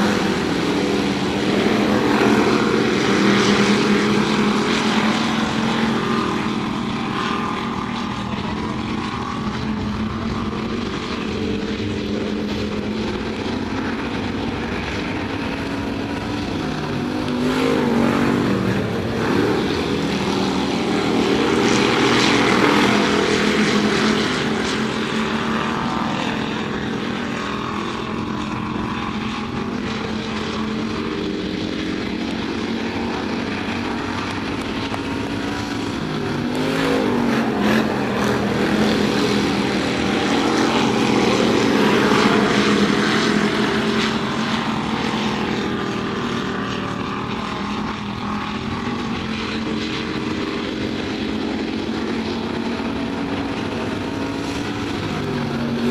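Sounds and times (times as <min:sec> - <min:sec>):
race car engines droning: 0:00.0 - 0:55.9
race car passing close by: 0:00.0 - 0:55.9.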